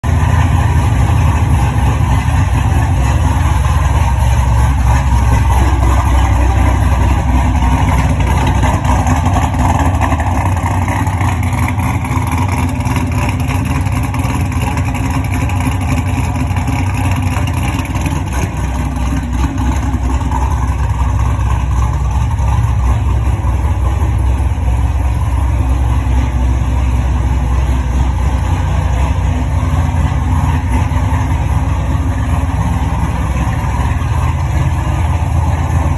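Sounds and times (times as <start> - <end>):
sports car engine idling: 0.0 - 35.9.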